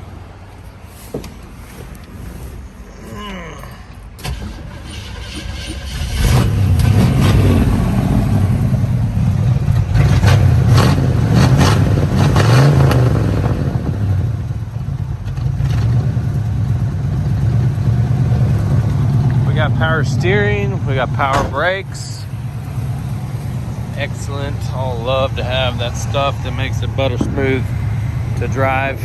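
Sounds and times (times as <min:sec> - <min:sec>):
pickup truck engine revving: 0:04.3 - 0:29.0.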